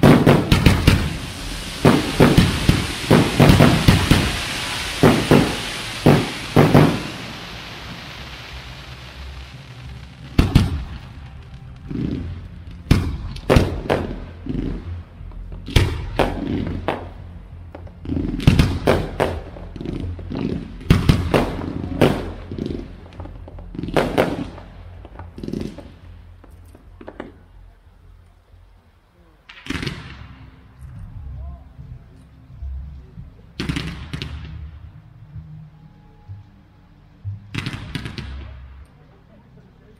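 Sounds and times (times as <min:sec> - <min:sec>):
fireworks bursting: 0:00.0 - 0:27.8, 0:29.4 - 0:32.0, 0:33.5 - 0:35.2, 0:37.2 - 0:39.3.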